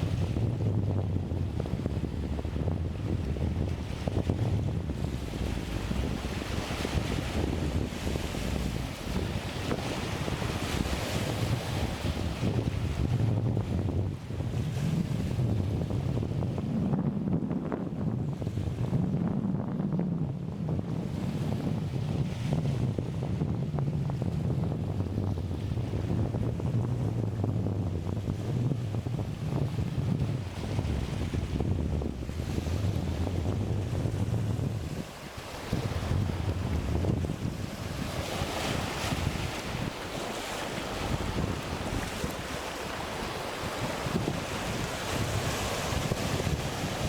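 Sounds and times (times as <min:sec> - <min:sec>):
choppy sea waves: 0:00.0 - 0:47.0
wind buffeting microphone: 0:00.0 - 0:47.0.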